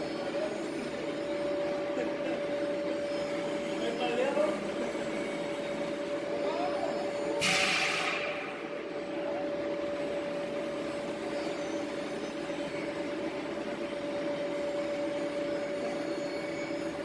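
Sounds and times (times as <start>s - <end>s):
machine motor hum with whine: 0.0s - 17.0s.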